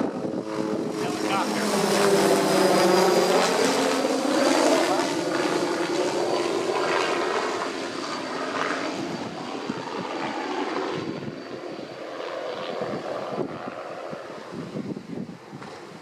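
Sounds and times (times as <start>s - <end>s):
aircraft engine droning overhead: 0.0s - 16.0s.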